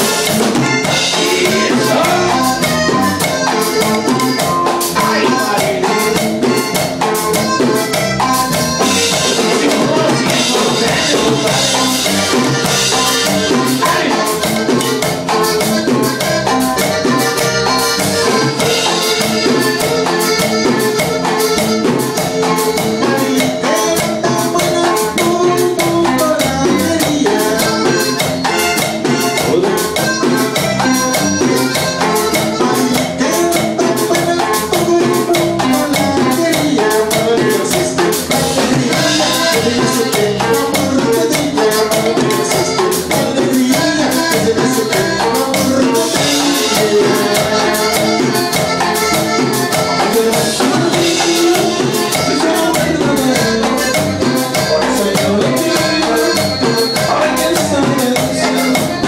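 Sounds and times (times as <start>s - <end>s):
button accordion melody: 0.0s - 59.0s
drum kit beat: 0.0s - 59.0s
electric bass: 0.0s - 59.0s
strummed acoustic guitar: 0.0s - 59.0s.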